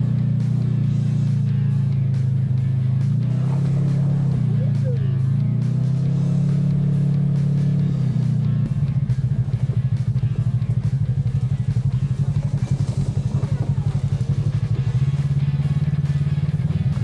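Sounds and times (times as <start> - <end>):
background music with drums: 0.0 - 17.0
utility vehicle engine running: 0.0 - 17.0.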